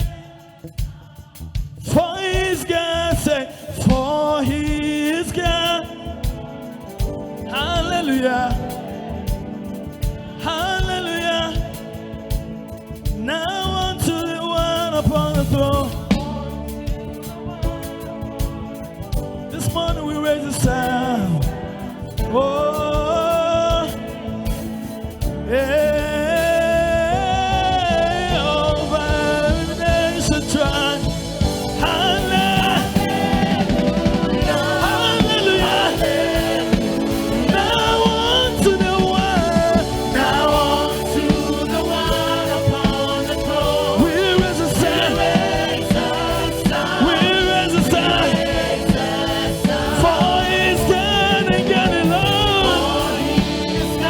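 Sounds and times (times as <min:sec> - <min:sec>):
band accompaniment: 0:00.0 - 0:54.0
voices singing gospel: 0:00.0 - 0:54.0.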